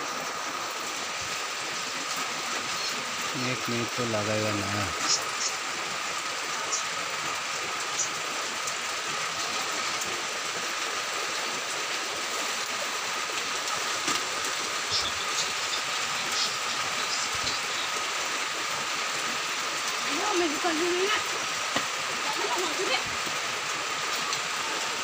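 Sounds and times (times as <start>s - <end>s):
rain on tarpaulin and plastic: 0.0s - 25.0s.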